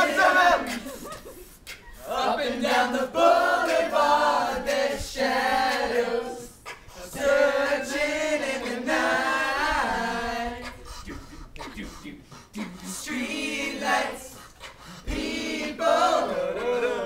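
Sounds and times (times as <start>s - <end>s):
boys singing together: 0.0s - 1.2s, 1.9s - 17.0s.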